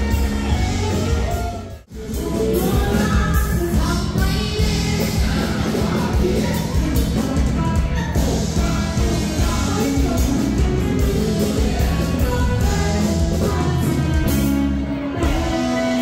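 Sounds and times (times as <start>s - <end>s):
live rock and roll music: 0.0s - 16.0s
person singing: 0.0s - 16.0s.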